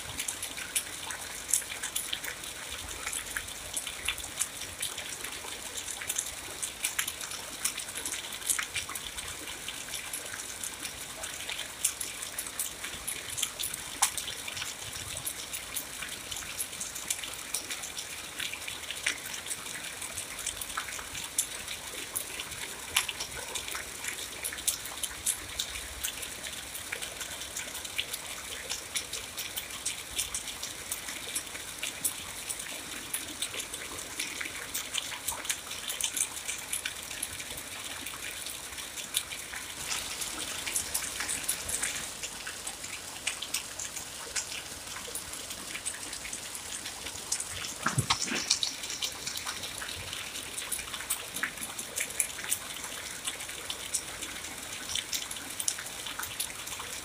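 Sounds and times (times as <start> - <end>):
raindrop splashes and patters: 0.0 - 57.0
steady rain hiss: 0.0 - 57.0.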